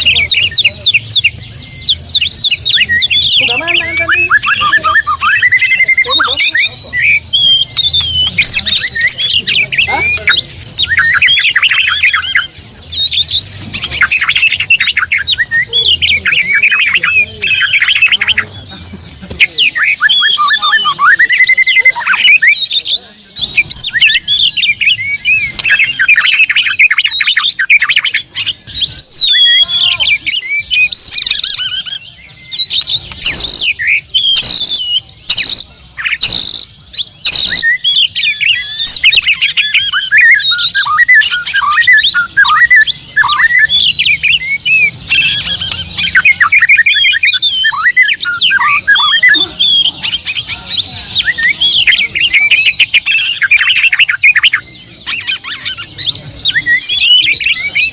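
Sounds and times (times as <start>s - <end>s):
bird singing whistled phrases: 0.0s - 18.5s, 19.4s - 57.9s.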